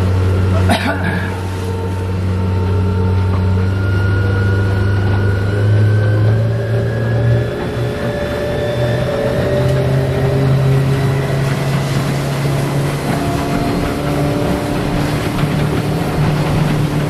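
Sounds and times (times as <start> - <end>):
boat motor running: 0.0 - 17.0
rush of wind and water: 0.0 - 17.0.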